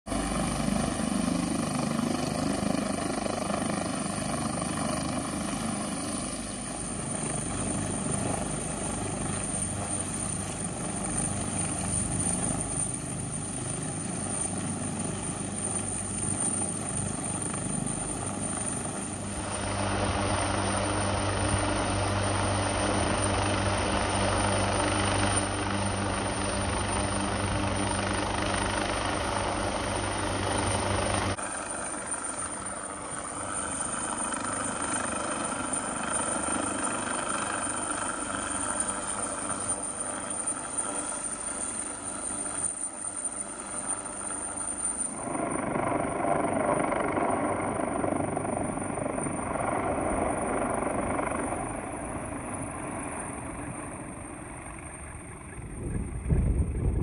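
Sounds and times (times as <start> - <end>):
helicopter hovering: 0.1 - 57.0.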